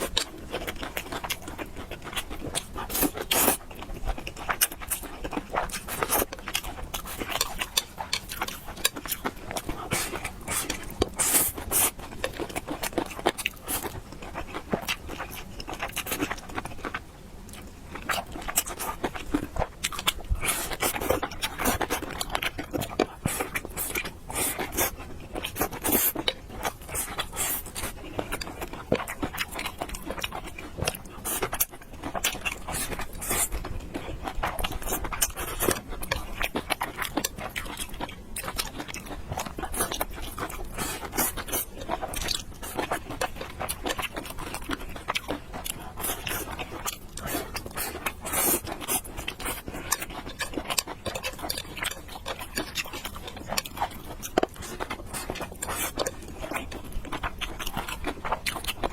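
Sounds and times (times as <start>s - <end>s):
person chewing and crunching food: 0.0s - 58.9s.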